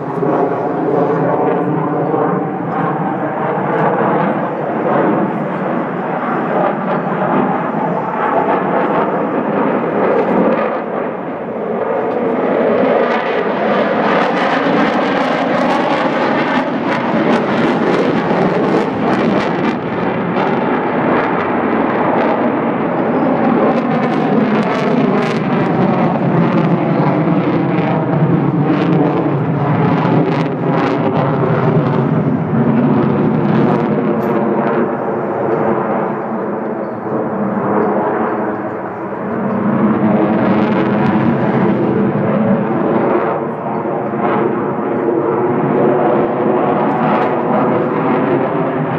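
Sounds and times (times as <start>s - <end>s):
fighter jet engines roaring: 0.0s - 48.9s.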